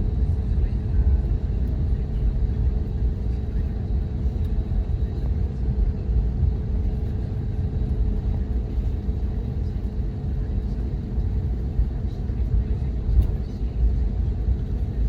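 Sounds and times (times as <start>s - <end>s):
faint constant hum: 0.0s - 15.0s
vehicle rumble in motion: 0.0s - 15.0s.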